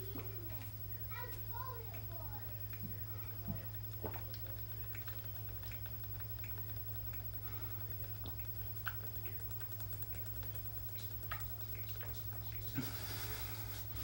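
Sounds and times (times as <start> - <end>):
steady low hum: 0.0 - 14.0
person gulping a drink: 2.7 - 14.0.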